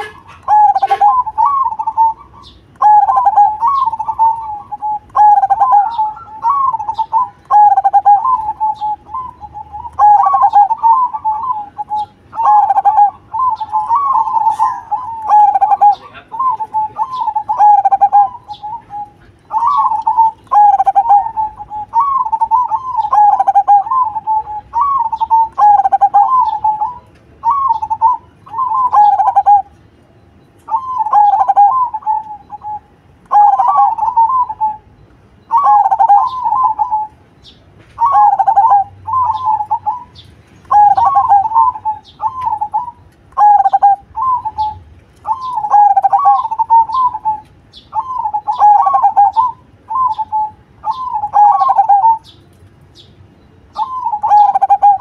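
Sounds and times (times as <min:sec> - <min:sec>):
dove cooing: 0:00.0 - 0:29.7, 0:30.7 - 0:37.4, 0:38.0 - 0:52.3, 0:53.7 - 0:55.0.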